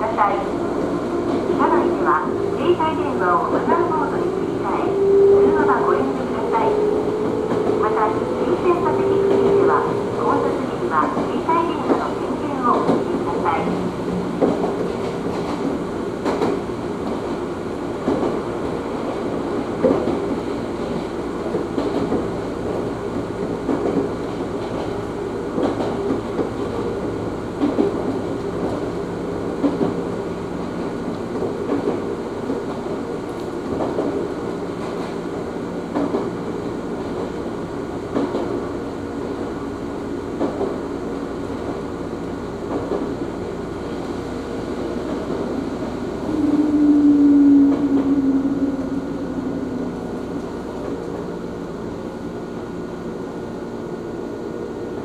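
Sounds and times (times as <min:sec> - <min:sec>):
train rumble and hum: 0:00.0 - 0:55.0.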